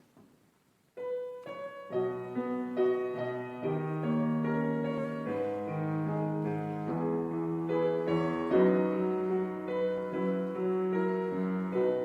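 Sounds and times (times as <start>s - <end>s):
piano chords: 1.0s - 12.0s.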